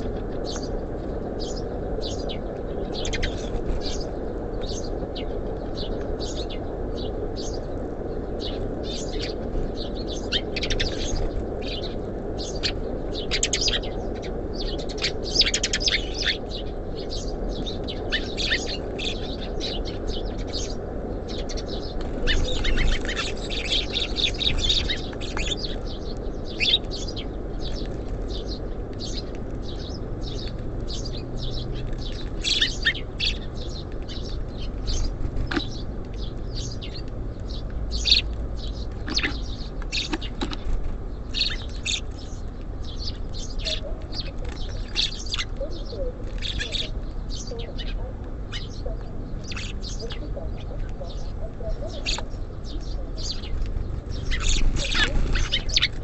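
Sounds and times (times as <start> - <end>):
low background rumble: 0.0 - 56.0
songbirds chirping: 0.0 - 56.0.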